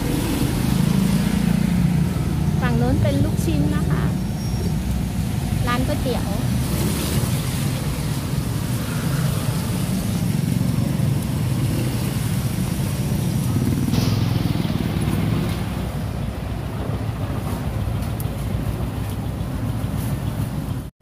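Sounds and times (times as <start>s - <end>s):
motorcycles and cars passing: 0.0s - 20.9s
traffic on wet road: 0.0s - 20.9s.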